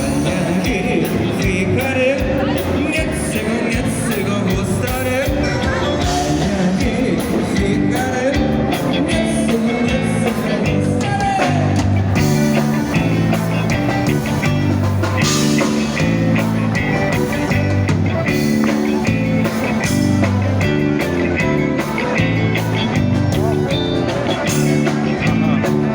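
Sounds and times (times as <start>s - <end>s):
music with steady beat: 0.0s - 25.9s
repeating bass notes: 0.0s - 25.9s.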